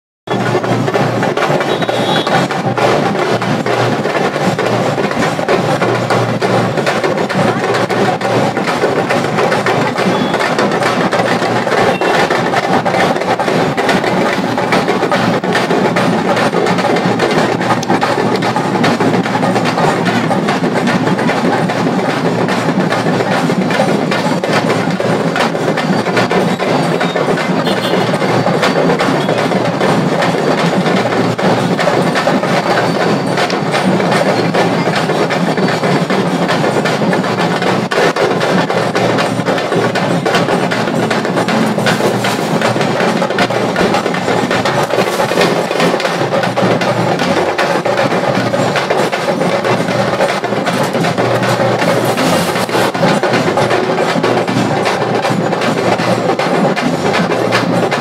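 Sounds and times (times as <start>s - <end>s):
drumming with wooden clacks: 0.3s - 58.0s.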